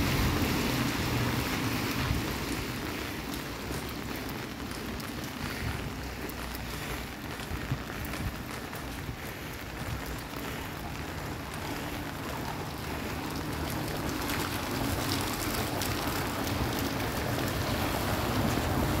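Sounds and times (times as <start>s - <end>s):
rain on stone paving: 0.0s - 19.0s.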